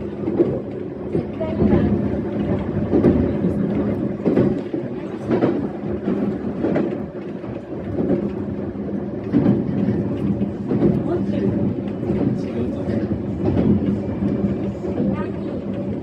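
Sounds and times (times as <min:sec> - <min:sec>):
electric train running: 0:00.0 - 0:16.0.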